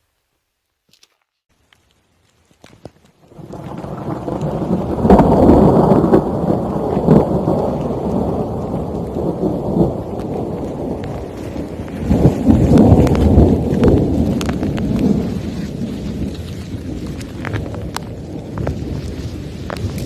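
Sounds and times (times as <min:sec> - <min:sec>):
thunder rumbling: 0:03.2 - 0:20.0.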